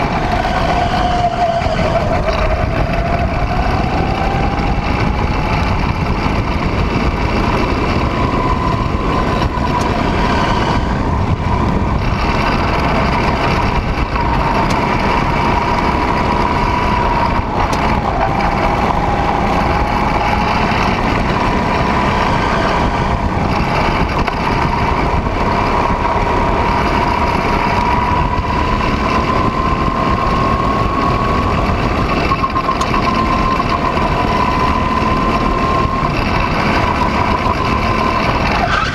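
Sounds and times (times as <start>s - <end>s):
go-kart engine: 0.0s - 38.9s
wind rumble on microphone: 0.0s - 38.9s.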